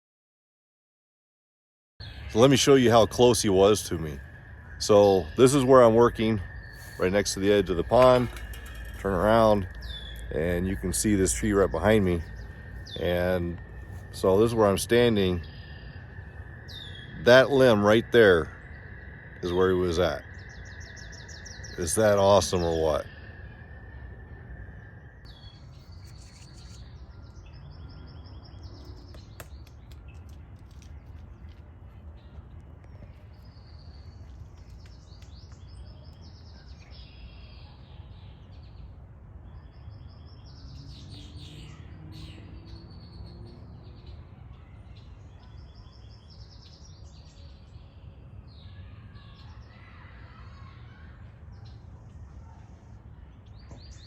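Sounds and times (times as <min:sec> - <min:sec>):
songbirds chirping and trilling: 0:02.0 - 0:54.0.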